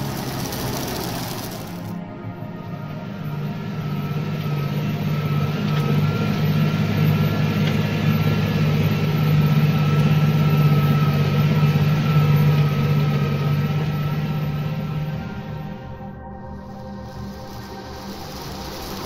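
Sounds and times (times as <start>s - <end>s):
thin steady whine: 0.0s - 19.0s
tractor diesel engine hum: 0.0s - 19.0s.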